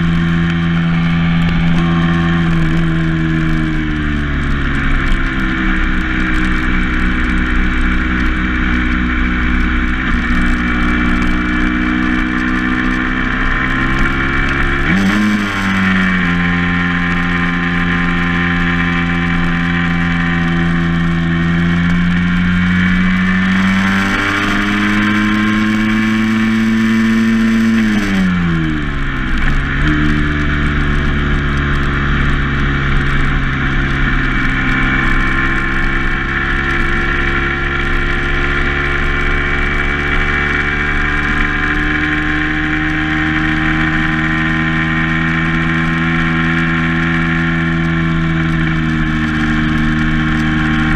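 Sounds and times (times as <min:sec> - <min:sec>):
vehicle engine driving: 0:00.0 - 0:50.9.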